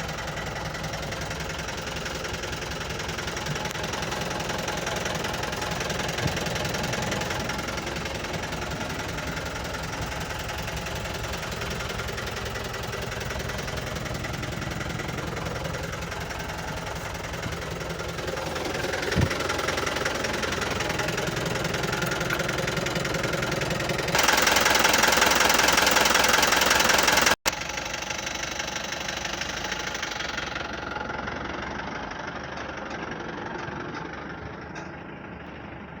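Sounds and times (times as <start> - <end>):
diesel engine idling with knocking: 0.0 - 36.0.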